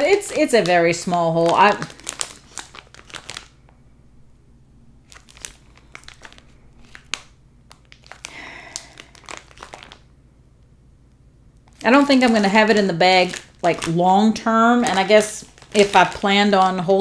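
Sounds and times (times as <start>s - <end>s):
plastic bag rustling: 0.0s - 3.9s, 5.0s - 10.1s, 11.6s - 17.0s.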